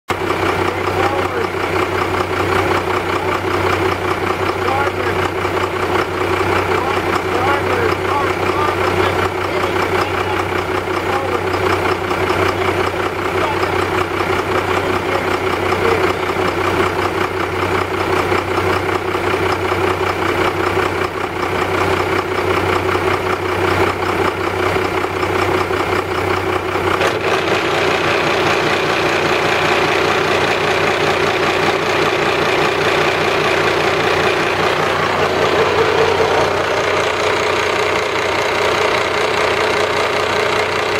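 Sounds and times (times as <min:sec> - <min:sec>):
boat engine running: 0:00.1 - 0:40.9.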